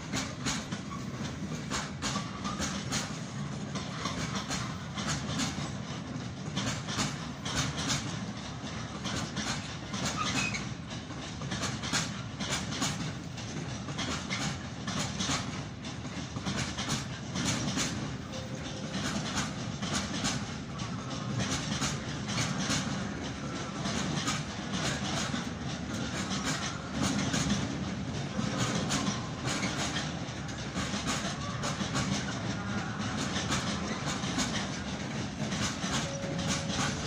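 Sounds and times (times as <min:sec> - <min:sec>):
train rumble: 0:00.0 - 0:37.0
train wheels clicking over rail joints: 0:00.0 - 0:37.0.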